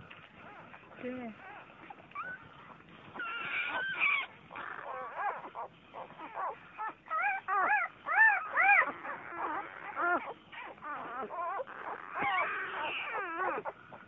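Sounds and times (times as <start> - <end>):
puppies whining and squealing: 0.0 - 14.0.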